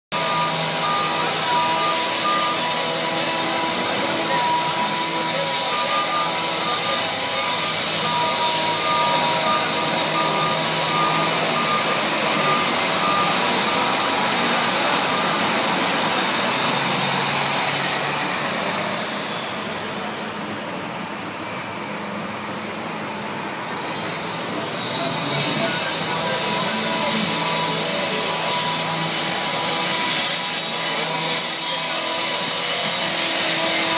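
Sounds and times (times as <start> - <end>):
truck backup alarm beeping: 0.1 - 19.9, 23.8 - 33.9
road noise: 0.1 - 33.9.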